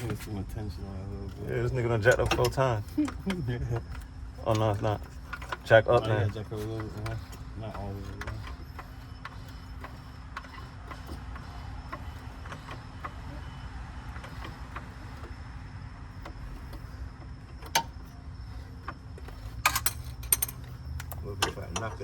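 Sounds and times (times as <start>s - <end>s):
hand tools clicking and clanking: 0.0s - 15.5s, 16.1s - 22.0s
steady low shop hum: 0.0s - 22.0s.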